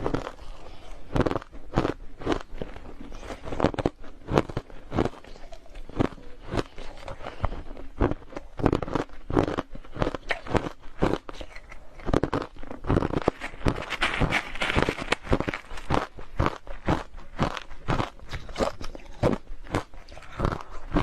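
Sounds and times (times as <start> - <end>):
crushed ice being chewed: 0.0 - 21.0.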